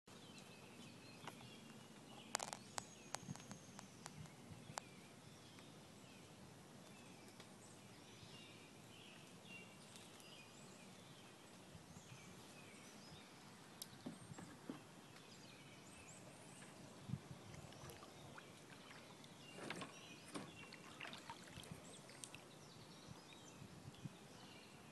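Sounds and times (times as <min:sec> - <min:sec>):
faint pond ambience: 0:00.0 - 0:24.9.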